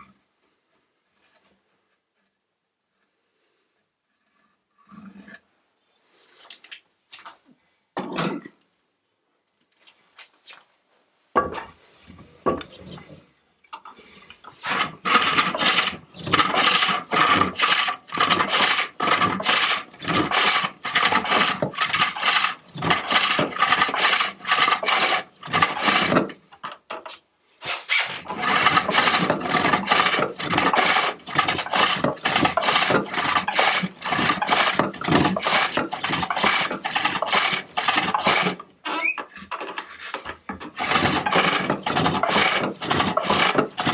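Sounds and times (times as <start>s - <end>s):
tool scraping wood on lathe: 1.1s - 6.0s, 12.5s - 13.2s, 13.8s - 43.9s.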